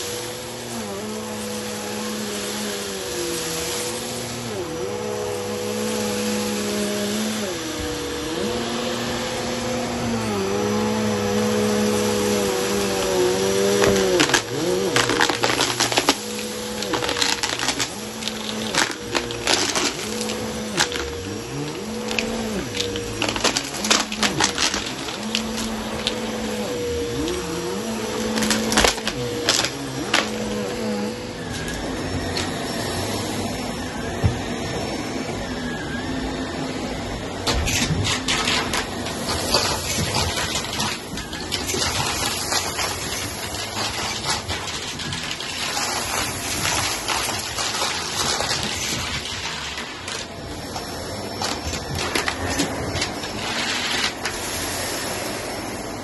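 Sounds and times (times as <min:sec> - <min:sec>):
grit and coins rattling: 0:00.0 - 0:32.7, 0:37.5 - 0:55.7
vacuum cleaner running: 0:00.0 - 0:56.0.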